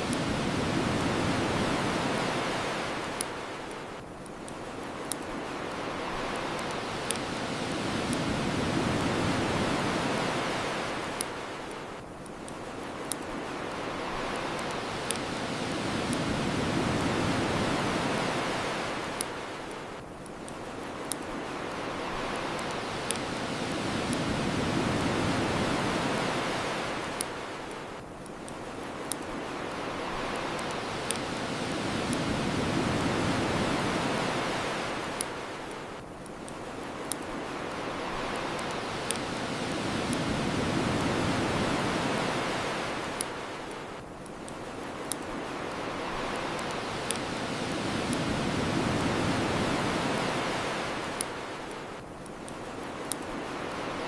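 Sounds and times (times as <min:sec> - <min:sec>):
bonfire crackling: 0:00.0 - 0:54.0
ocean waves washing ashore: 0:00.0 - 0:54.0.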